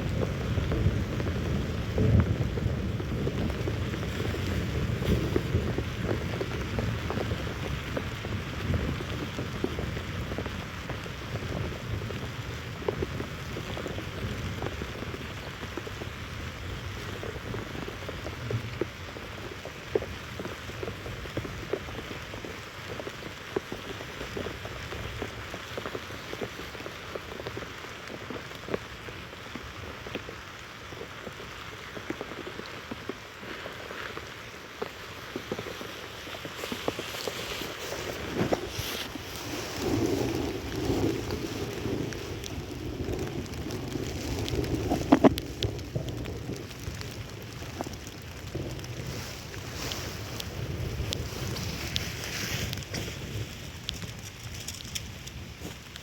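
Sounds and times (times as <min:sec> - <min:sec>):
raindrops tapping on a surface: 0:00.0 - 0:56.0.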